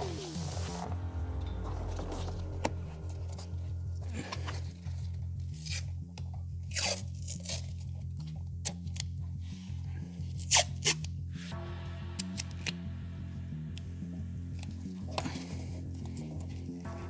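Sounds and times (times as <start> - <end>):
background music with bass line: 0.0 - 17.0.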